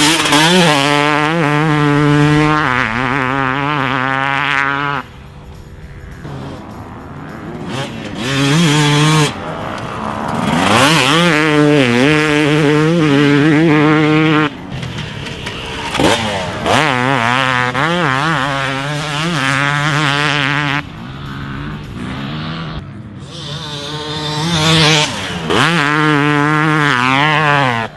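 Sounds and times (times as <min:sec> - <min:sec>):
two-stroke dirt bike engine revving: 0:00.0 - 0:27.9.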